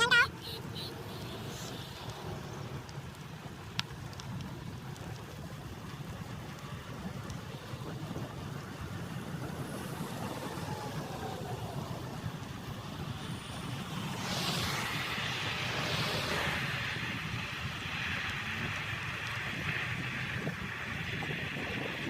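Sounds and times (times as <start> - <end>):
road traffic rumble and hiss: 0.0 - 22.0.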